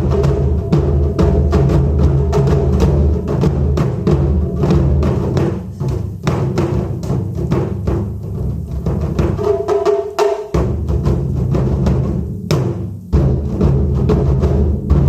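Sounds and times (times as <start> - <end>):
deep booming drums: 0.0 - 15.0
sharp drum hits: 0.0 - 15.0.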